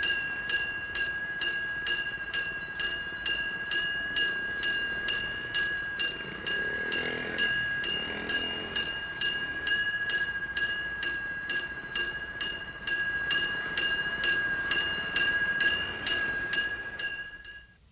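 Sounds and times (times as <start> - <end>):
railroad crossing bell ringing: 0.0 - 17.8.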